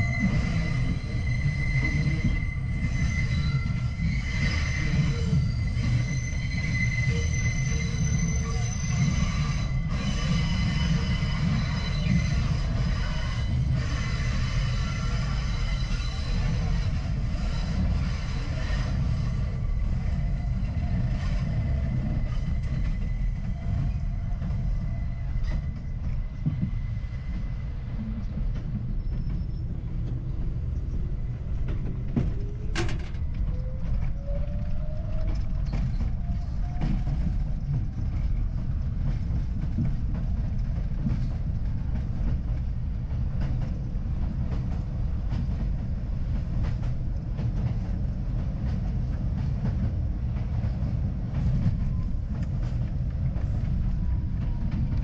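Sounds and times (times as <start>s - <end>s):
subway train rumbling: 0.0s - 55.0s.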